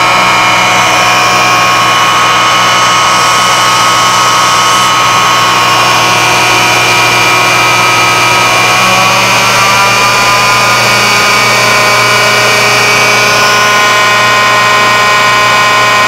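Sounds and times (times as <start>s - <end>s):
router motor whine: 0.0s - 16.0s.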